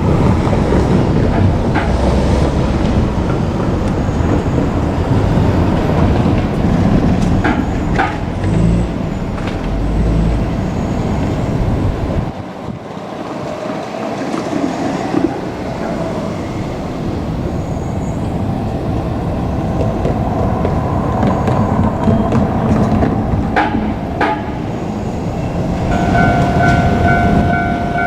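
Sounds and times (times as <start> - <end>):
train wheels on track: 0.0 - 28.0.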